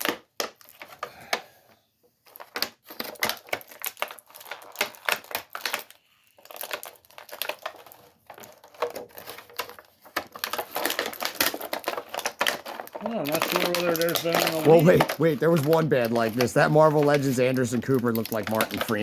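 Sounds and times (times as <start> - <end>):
plastic packaging clicks and crinkles: 0.0 - 19.0.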